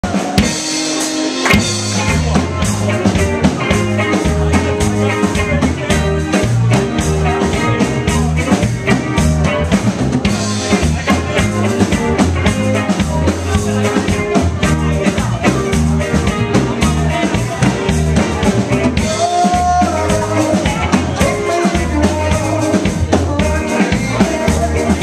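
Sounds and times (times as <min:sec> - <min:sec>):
drum kit beat: 0:00.0 - 0:25.0
electric guitar: 0:00.0 - 0:25.0.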